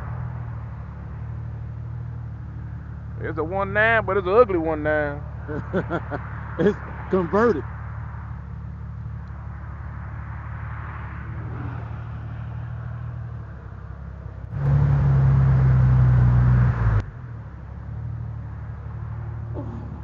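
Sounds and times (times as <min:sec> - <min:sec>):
motorcycle engine drone: 0:00.0 - 0:20.0
road noise: 0:00.0 - 0:20.0.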